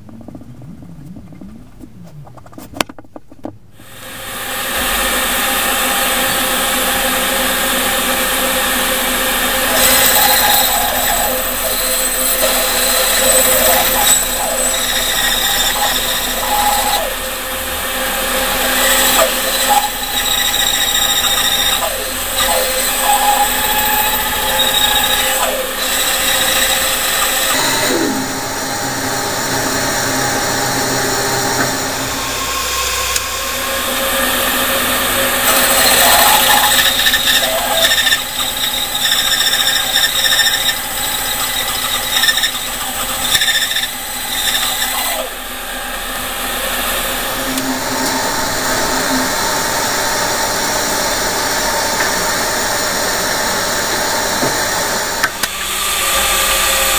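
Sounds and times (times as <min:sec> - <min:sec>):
power tool working wood: 0:03.8 - 0:56.9.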